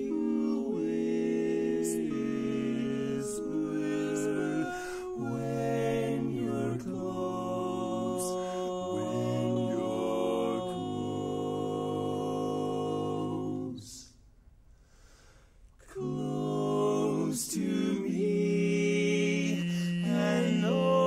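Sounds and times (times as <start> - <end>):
barbershop quartet singing: 0.0 - 14.0, 15.9 - 21.0.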